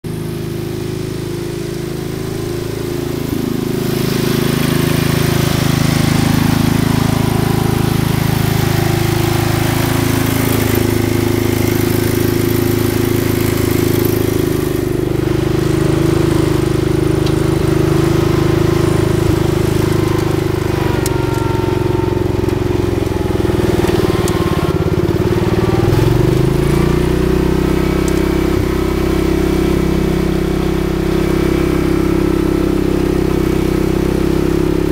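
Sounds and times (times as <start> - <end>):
excavator engine running: 0.0 - 34.9.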